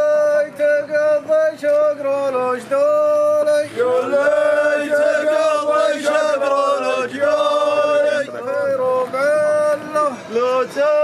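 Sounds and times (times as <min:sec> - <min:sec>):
backing voices singing: 0:00.0 - 0:11.0.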